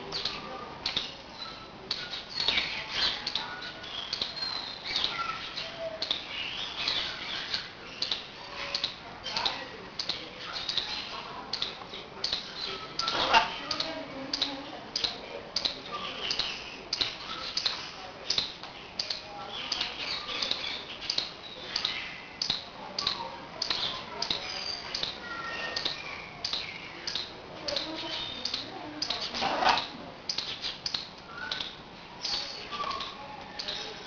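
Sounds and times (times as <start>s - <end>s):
parrot clicking and chirping: 0.1s - 34.0s.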